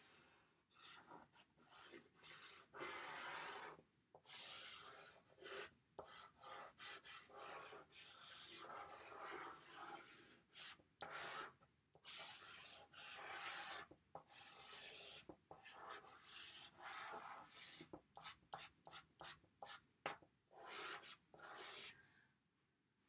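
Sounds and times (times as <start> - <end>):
chalk pastel scratching on paper: 0.0 - 22.0.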